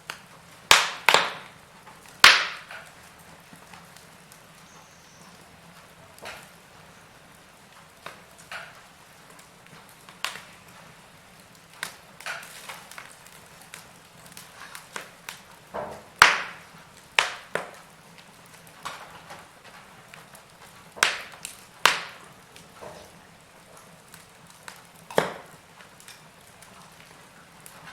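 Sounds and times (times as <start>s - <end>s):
faint steady hiss: 0.0s - 27.9s
wood fire crackling: 0.0s - 27.9s.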